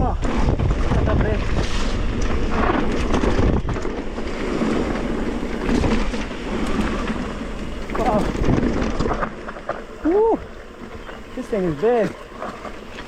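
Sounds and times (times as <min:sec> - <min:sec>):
bike rattling over bumps: 0:00.0 - 0:13.0
bike tyres rumbling: 0:00.0 - 0:13.0
wind buffeting microphone: 0:00.0 - 0:13.0.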